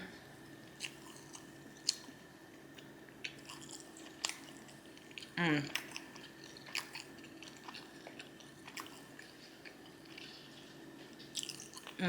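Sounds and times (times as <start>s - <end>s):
low room hum: 0.0s - 12.0s
chewing with wet mouth clicks: 0.7s - 12.0s.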